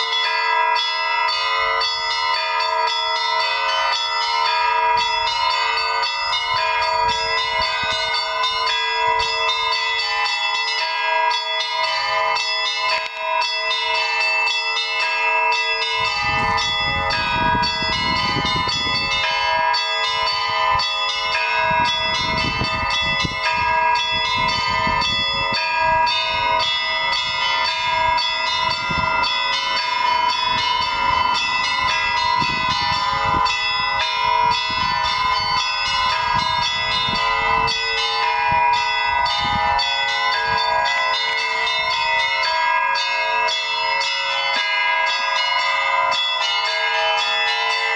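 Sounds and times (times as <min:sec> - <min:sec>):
high church bells striking rapidly: 0:00.0 - 0:47.9
large bells ringing steadily: 0:00.0 - 0:47.9.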